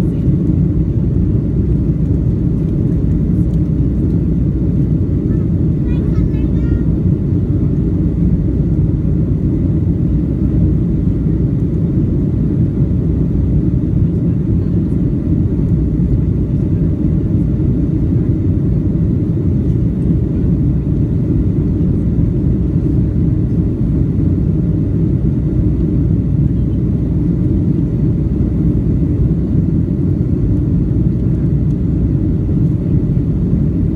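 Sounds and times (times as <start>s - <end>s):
airliner engine rumble: 0.0s - 33.9s.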